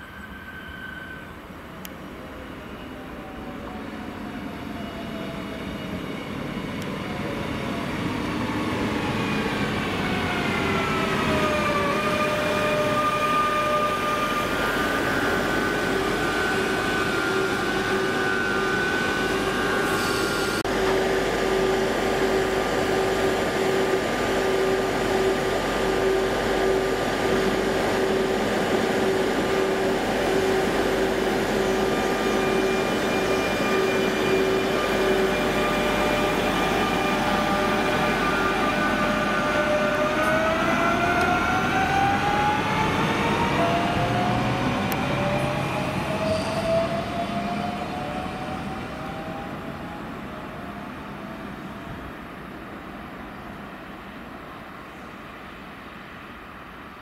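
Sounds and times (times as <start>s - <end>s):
train braking whine: 0.0s - 52.2s.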